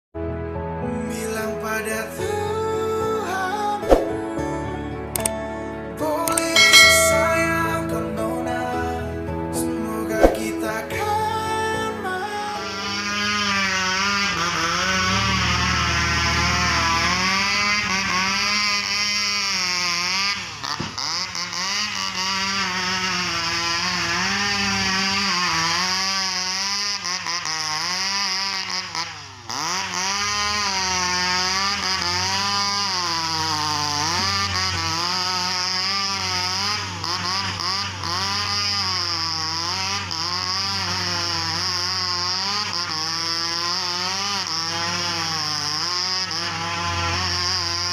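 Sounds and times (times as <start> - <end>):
chainsaw engine revving: 7.8 - 47.9.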